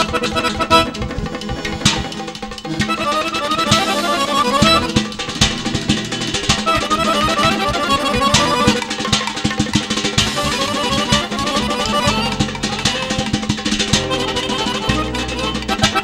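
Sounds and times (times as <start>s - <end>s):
accordion dance melody: 0.0s - 16.0s
drum beat: 0.0s - 16.0s.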